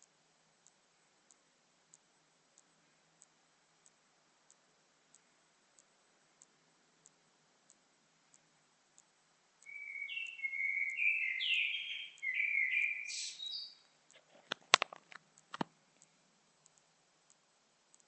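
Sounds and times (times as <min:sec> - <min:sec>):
faint ticks: 0:00.0 - 0:11.0, 0:13.8 - 0:18.0.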